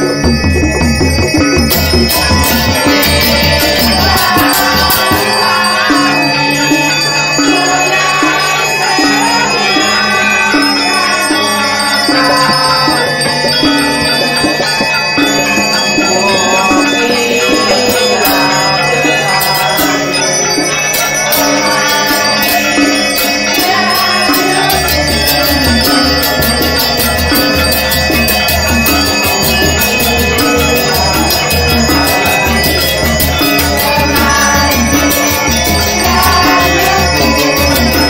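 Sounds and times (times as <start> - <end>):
gamelan music: 0.0 - 38.0.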